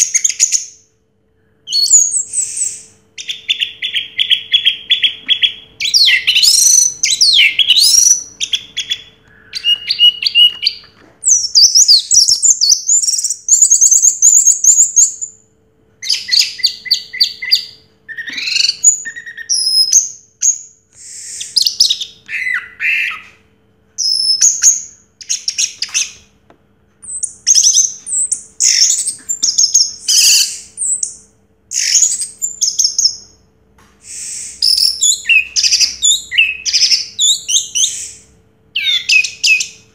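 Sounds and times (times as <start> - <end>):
thrush singing chirps and trills: 0.0 - 26.4, 27.0 - 39.9
faint steady hum: 0.0 - 39.9.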